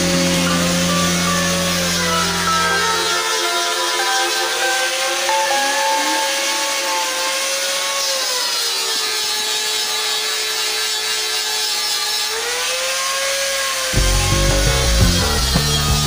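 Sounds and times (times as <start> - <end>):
electric buffer motor whine: 0.0 - 16.0.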